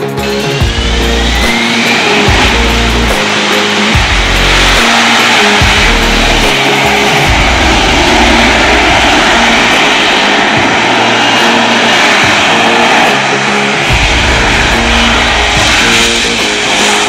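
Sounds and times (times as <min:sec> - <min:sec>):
loud steady jet roar: 0:00.0 - 0:17.0.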